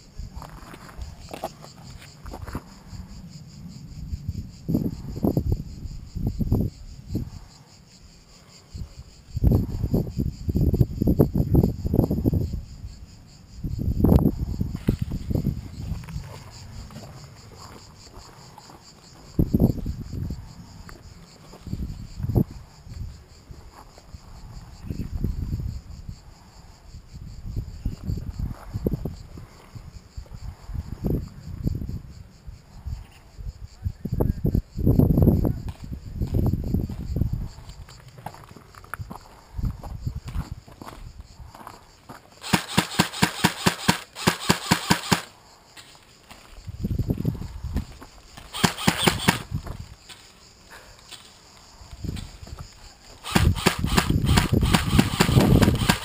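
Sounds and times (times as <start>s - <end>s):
cicadas chorus: 0.0s - 56.0s
insects droning: 0.0s - 56.0s
wind buffeting microphone: 2.2s - 38.0s, 39.0s - 41.6s, 46.6s - 50.1s, 51.8s - 56.0s.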